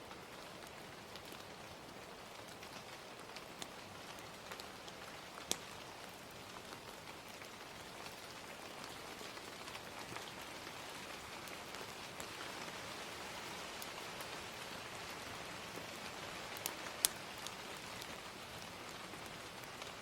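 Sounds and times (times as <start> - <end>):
gentle rain: 0.0 - 20.0
fire crackling and popping: 0.1 - 20.0.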